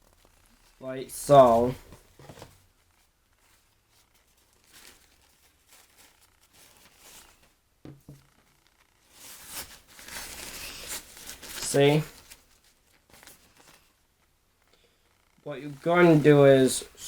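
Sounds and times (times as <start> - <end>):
paper towels rustling: 0.0 - 7.7, 9.0 - 14.3, 15.6 - 17.0.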